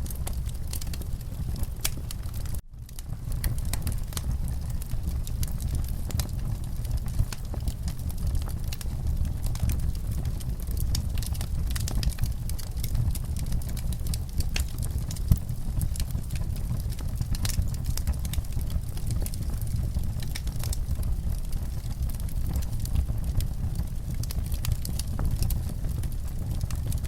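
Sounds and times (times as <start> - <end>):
low rumble of flames: 0.0 - 27.0
wood fire crackling: 0.0 - 27.0.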